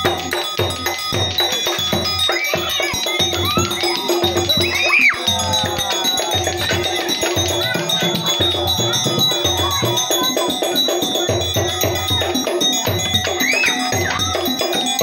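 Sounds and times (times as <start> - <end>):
drum beating steady rhythm: 0.0 - 15.0
ringing bell-like metal tones: 0.0 - 15.0.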